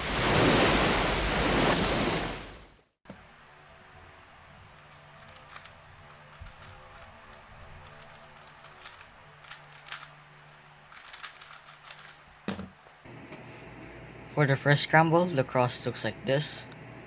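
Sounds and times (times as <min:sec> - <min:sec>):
faint steady hum: 0:03.1 - 0:17.0.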